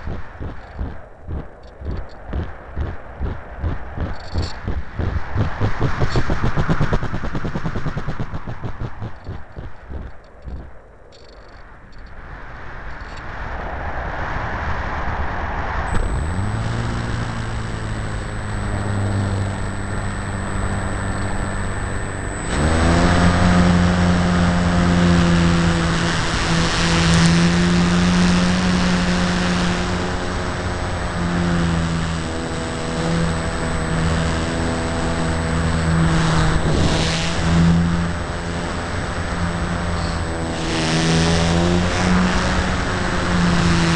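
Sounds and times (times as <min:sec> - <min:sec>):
model airplane motor and propeller: 0:00.0 - 0:12.1, 0:15.9 - 0:43.9.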